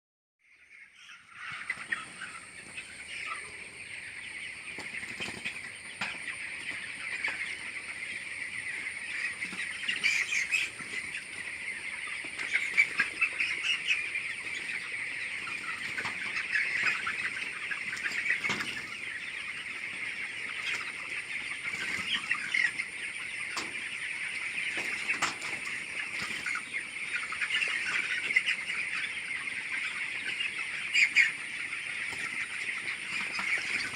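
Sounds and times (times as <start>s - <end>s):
chickens calling: 0.4s - 33.9s.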